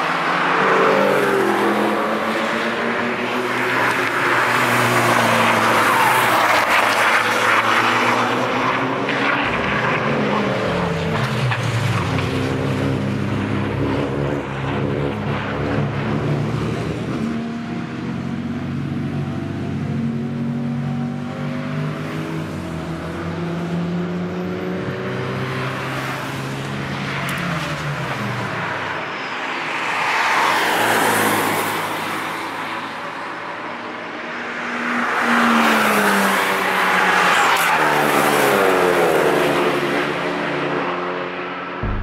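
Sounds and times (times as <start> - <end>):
race cars passing: 0.0 - 42.0.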